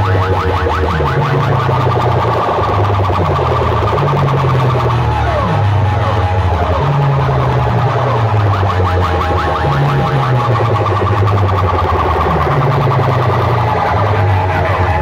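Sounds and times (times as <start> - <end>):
loud electronic dance music: 0.0 - 15.0.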